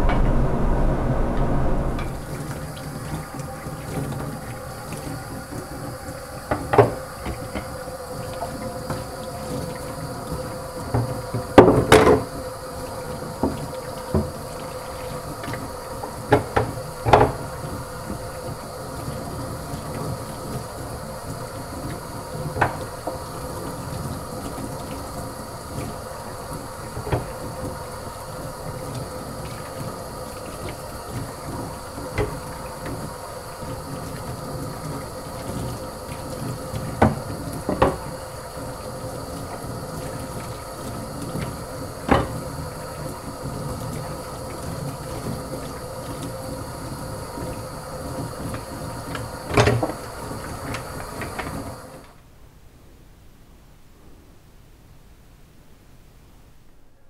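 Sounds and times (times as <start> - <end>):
tap water running into sink: 2.1 - 52.1.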